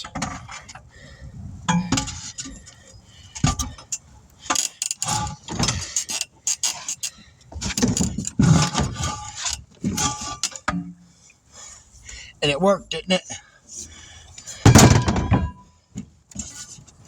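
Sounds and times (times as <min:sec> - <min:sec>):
tire changer clanks and scrapes: 0:00.0 - 0:12.1, 0:13.7 - 0:17.0.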